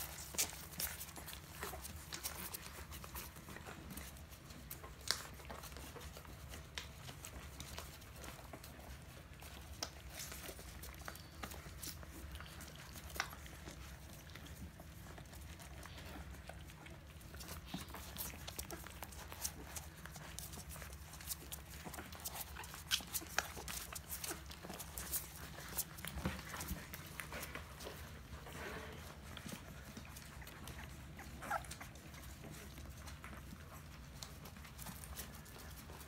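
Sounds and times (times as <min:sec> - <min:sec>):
puppies suckling: 0:00.0 - 0:36.0
rustle of squirming bodies: 0:00.0 - 0:36.0.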